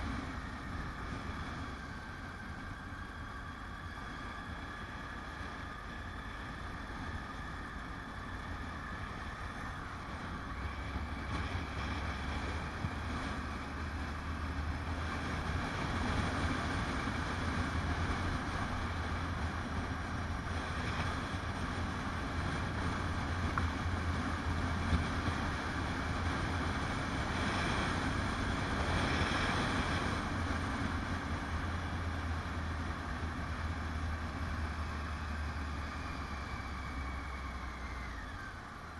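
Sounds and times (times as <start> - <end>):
motorcycle engine humming: 0.0 - 38.9.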